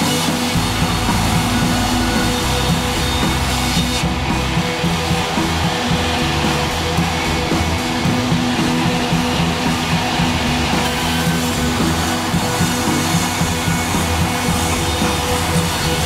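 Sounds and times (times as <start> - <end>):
background music with pitched notes: 0.0 - 16.0.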